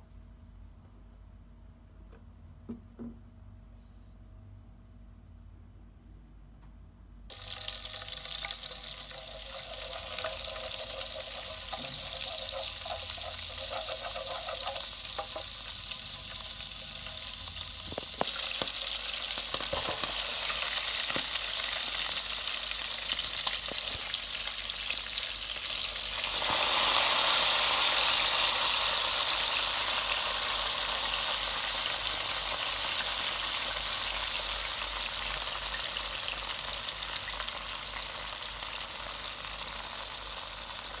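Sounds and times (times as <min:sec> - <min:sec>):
beef sizzling in a pan: 0:07.3 - 0:41.0.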